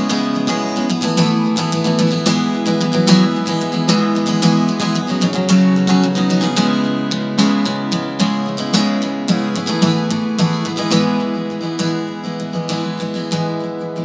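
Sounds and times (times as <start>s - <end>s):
acoustic guitar strummed: 0.0s - 14.0s.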